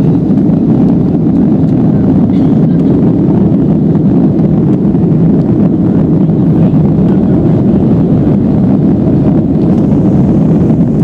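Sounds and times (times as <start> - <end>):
jet cabin engine noise: 0.0 - 11.0.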